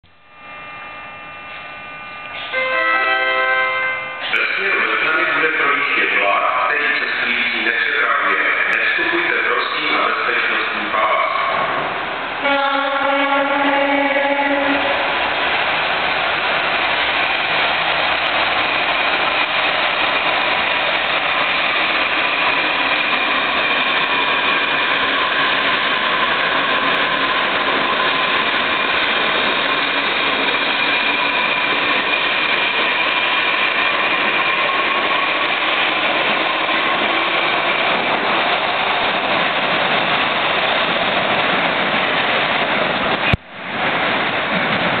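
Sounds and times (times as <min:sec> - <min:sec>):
metro train passing: 0:00.2 - 0:45.0.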